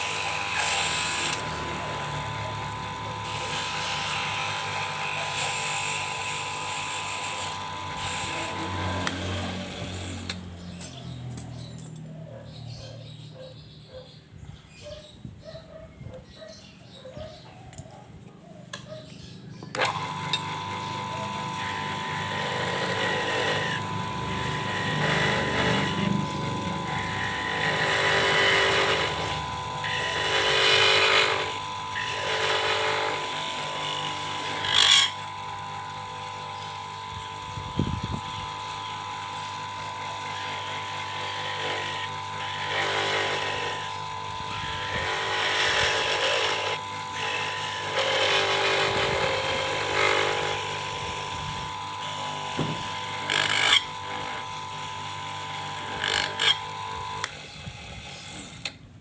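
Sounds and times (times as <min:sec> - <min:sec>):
cutting tool scraping plastic pipe: 0:00.0 - 0:10.4, 0:19.7 - 0:57.4
lathe motor whine: 0:00.0 - 0:10.6, 0:19.6 - 0:58.6.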